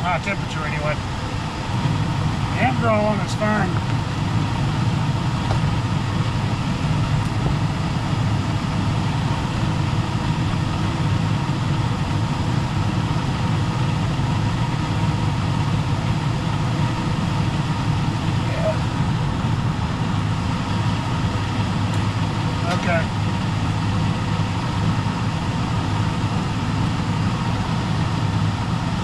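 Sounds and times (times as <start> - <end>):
furnace fans and burners rushing: 0.0 - 29.0.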